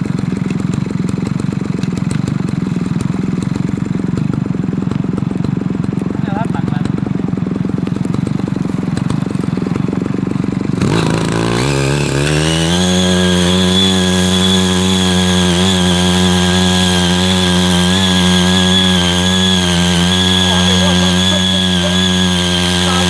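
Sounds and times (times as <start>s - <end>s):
small petrol engine idling and revving: 0.0s - 23.0s.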